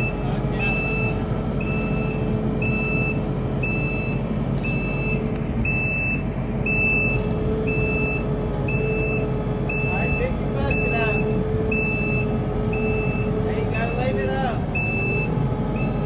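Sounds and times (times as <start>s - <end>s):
backup alarm beeping: 0.0s - 14.2s, 14.8s - 16.0s.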